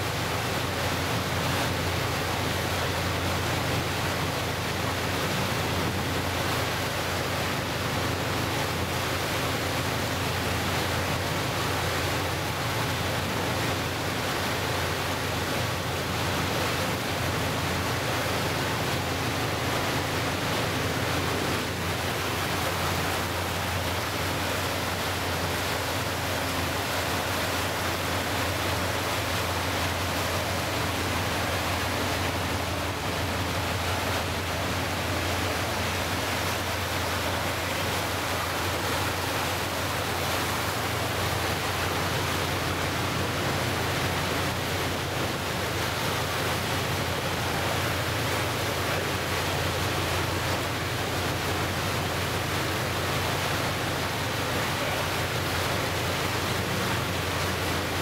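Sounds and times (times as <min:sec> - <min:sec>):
boat engine hum: 0:00.0 - 0:58.0
water rushing in boat wake: 0:00.0 - 0:58.0.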